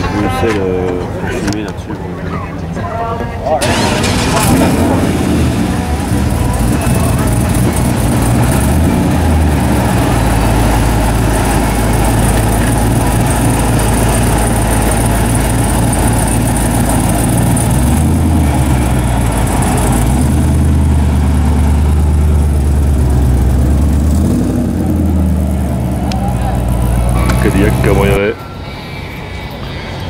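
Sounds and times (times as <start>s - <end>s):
car engine idling: 2.9s - 30.0s.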